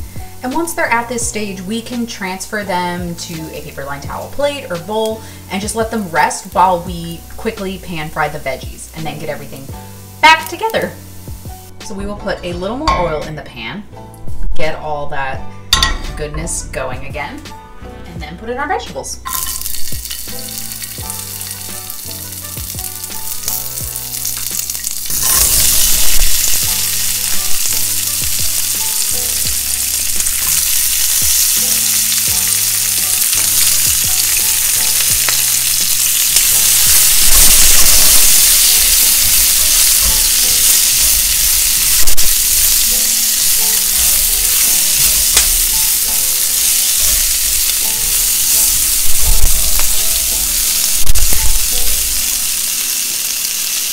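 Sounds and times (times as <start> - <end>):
vegetables sizzling in hot oil: 0.0 - 13.2, 19.2 - 53.9.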